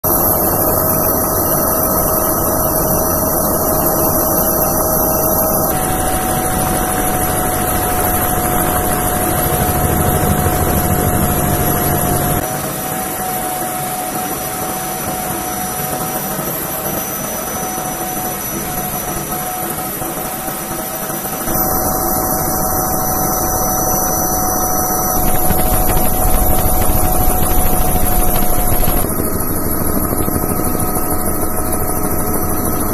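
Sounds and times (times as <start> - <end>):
helicopter rotor noise: 0.0 - 32.9
steady high-pitched tones: 0.1 - 32.9
turbine engines whining: 0.1 - 32.9.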